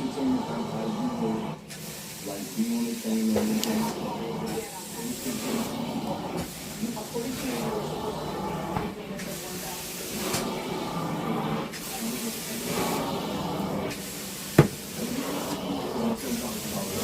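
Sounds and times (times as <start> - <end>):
carpet cleaning machine spraying: 0.0 - 17.0.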